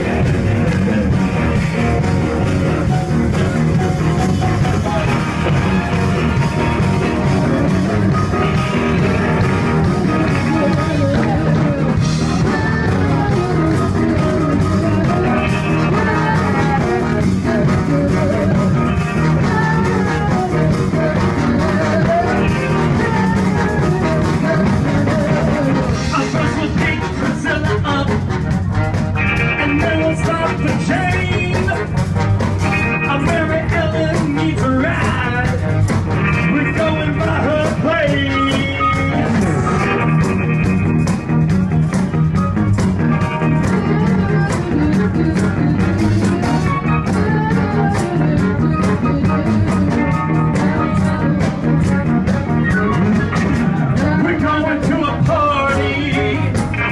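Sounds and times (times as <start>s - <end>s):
person singing: 0.0s - 28.7s, 29.3s - 32.0s, 32.6s - 56.9s
live band playing: 0.0s - 56.9s.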